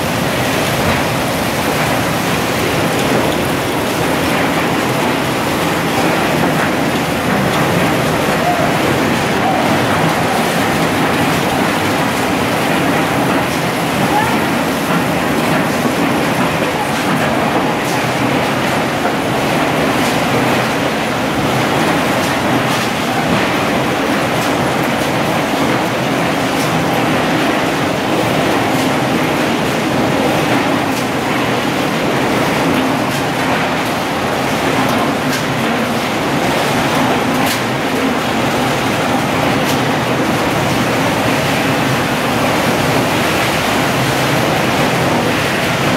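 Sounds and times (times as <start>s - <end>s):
machine clatter and hum: 0.0s - 45.9s.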